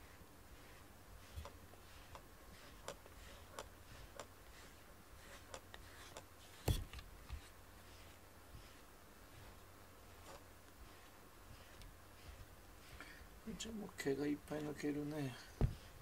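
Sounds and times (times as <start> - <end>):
brush scratching cat fur: 0.0 - 16.0.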